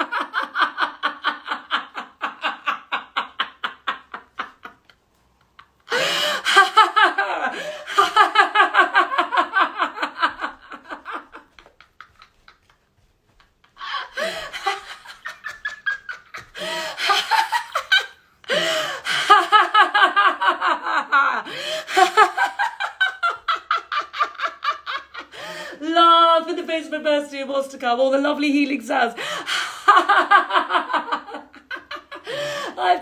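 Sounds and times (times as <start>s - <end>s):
woman laughing hard: 0.0s - 5.0s, 5.6s - 26.0s, 29.2s - 33.0s.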